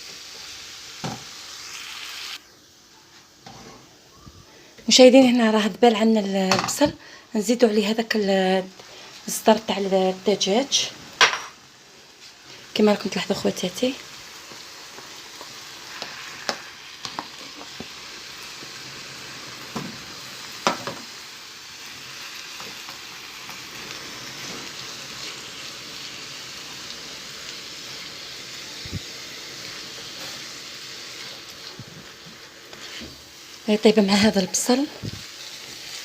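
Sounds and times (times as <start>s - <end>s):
food sizzling in a pan: 0.0s - 36.0s.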